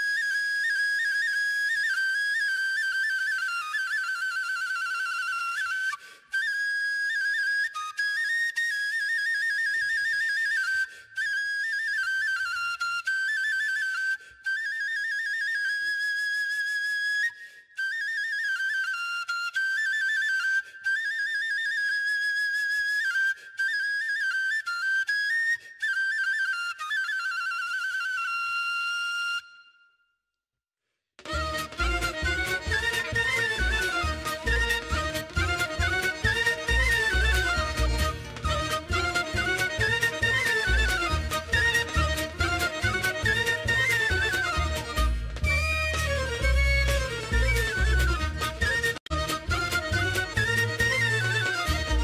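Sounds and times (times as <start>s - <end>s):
folk flute melody: 0.0s - 30.1s, 31.2s - 52.0s.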